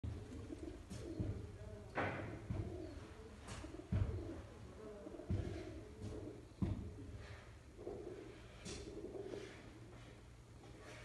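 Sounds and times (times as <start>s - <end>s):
pigeons cooing: 0.1s - 10.1s.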